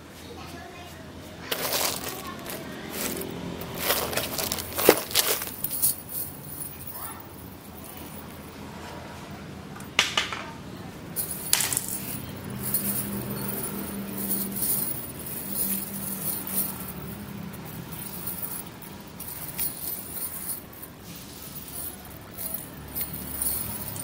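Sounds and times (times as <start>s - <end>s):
chainmail rings jingling: 1.5s - 8.5s, 11.2s - 24.0s.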